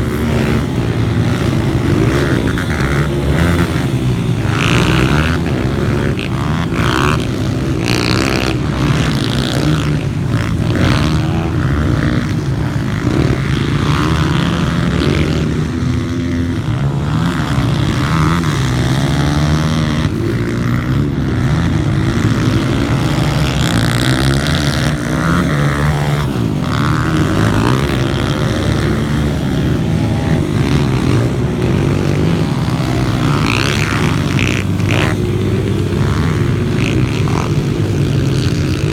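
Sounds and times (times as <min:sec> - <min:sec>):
pit bike engine revving: 0:00.0 - 0:38.9.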